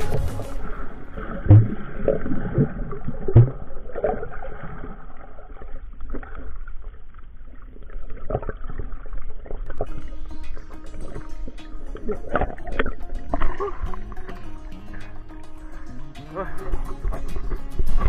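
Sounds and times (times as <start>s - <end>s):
muffled underwater water movement: 0.0s - 18.0s.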